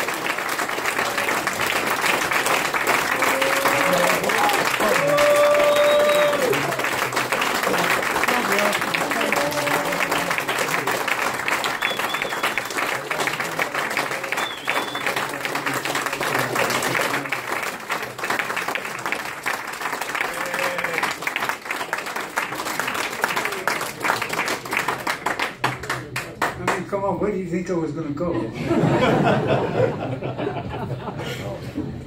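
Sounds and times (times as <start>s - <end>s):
audience applauding: 0.0s - 26.8s
voices among clapping: 0.0s - 26.9s.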